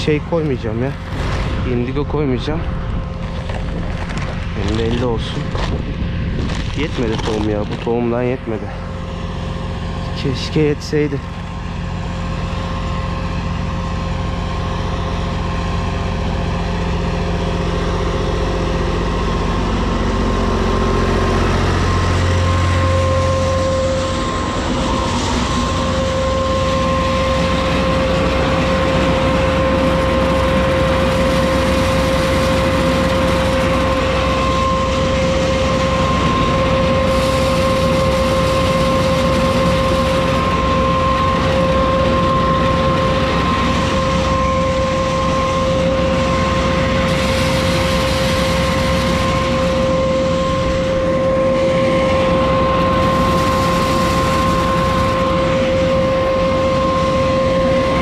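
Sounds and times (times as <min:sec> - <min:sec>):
high whine: 0:00.0 - 0:58.0
tractor diesel engine running: 0:00.0 - 0:58.0.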